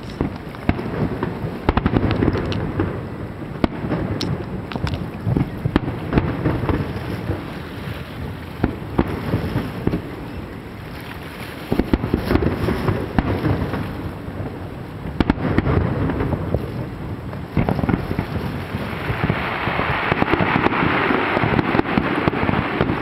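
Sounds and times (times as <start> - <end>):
firework shells booming: 0.0 - 10.4, 11.7 - 23.0.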